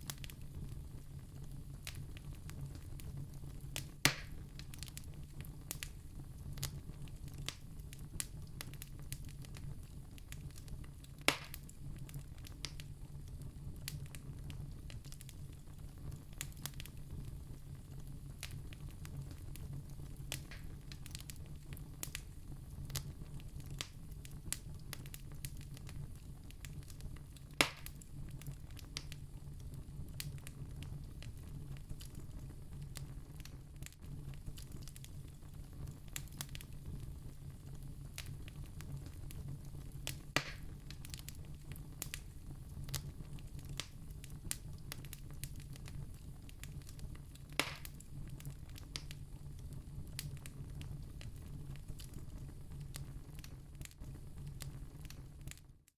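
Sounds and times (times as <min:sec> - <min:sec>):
low fire rumble: 0:00.0 - 0:55.9
wood fire crackling: 0:00.0 - 0:55.9
sharp fire pops: 0:01.8 - 0:13.0, 0:18.4 - 0:55.6.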